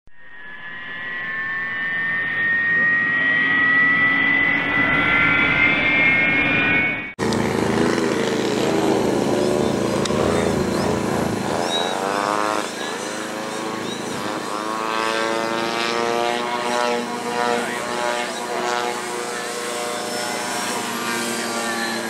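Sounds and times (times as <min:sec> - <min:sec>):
rising electronic tone: 0:00.1 - 0:22.0
model airplane engine buzzing: 0:01.2 - 0:22.0.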